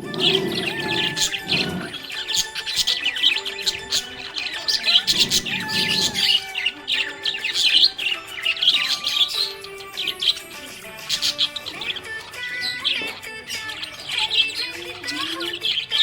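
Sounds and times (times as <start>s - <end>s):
budgerigars chirping and warbling: 0.0s - 16.0s.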